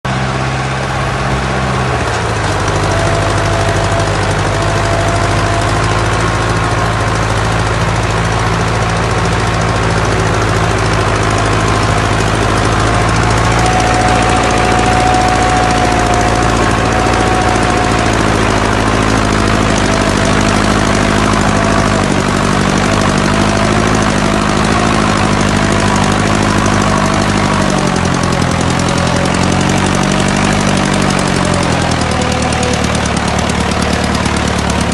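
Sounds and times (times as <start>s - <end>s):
tractor engine running: 0.0s - 34.9s
faint whine: 0.1s - 34.9s.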